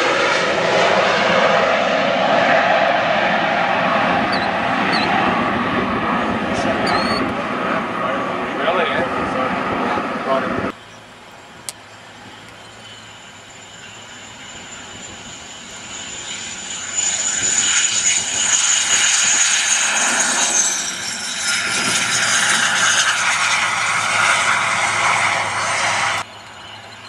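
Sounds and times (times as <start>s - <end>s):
jet engine whining: 0.0s - 27.0s.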